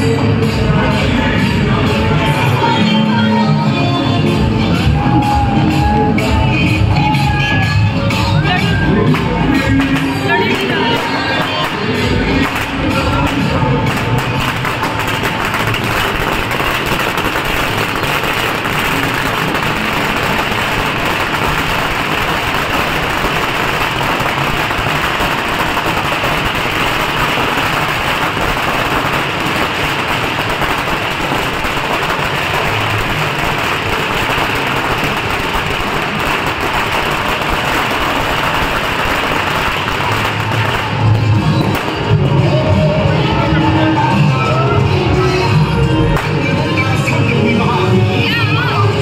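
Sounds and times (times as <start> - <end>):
firecrackers crackling: 4.0 - 44.0.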